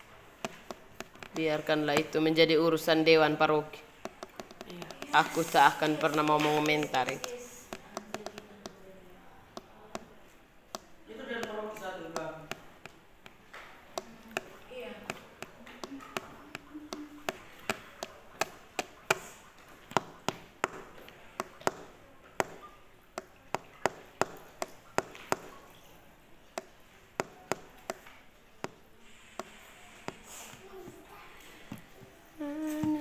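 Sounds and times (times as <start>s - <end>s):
sharp taps: 0.4s - 2.5s, 3.2s - 8.8s, 9.5s - 25.9s, 26.6s - 30.6s.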